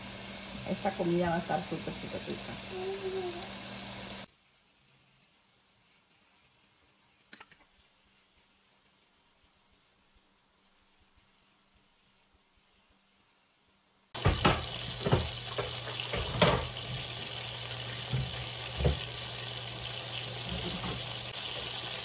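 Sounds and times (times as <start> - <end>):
beef sizzling in hot oil: 0.0 - 22.0.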